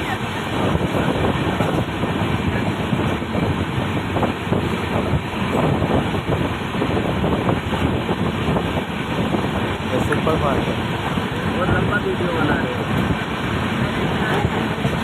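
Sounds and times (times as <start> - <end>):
train rumbling and rattling: 0.0 - 15.0.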